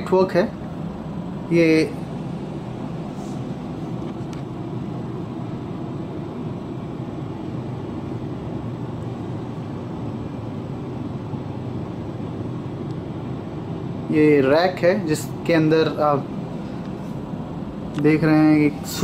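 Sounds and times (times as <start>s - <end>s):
ventilation rushing: 0.0s - 19.0s.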